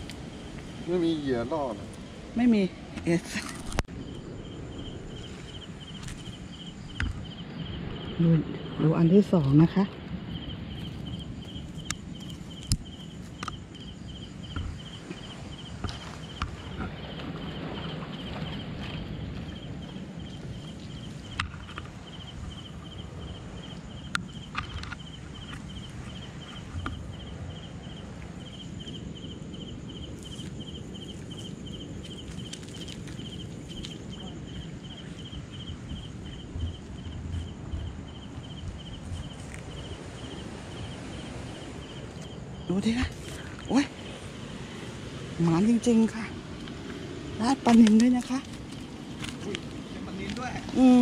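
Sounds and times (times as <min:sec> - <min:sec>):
cricket chirping: 0:00.0 - 0:51.0.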